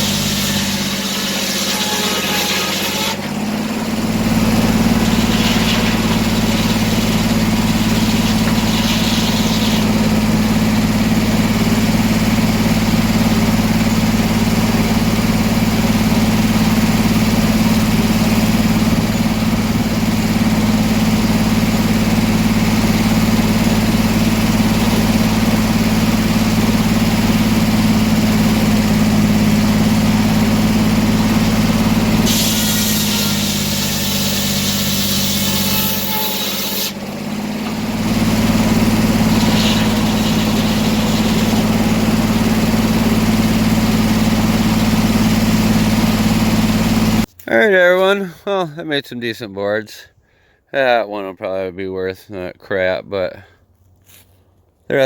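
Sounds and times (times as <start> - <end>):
sawmill engine humming: 0.0 - 49.0.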